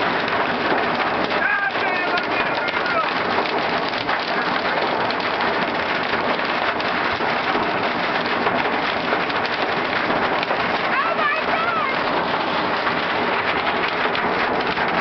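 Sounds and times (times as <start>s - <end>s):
hail and rain on a car roof: 0.0s - 15.0s.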